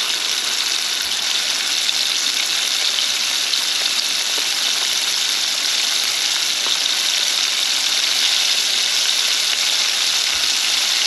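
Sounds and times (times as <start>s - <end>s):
shrimp sizzling in hot oil: 0.0s - 11.0s.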